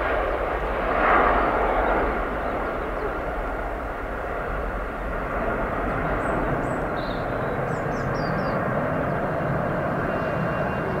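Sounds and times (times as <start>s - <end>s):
jet engines at take-off thrust: 0.0s - 11.0s.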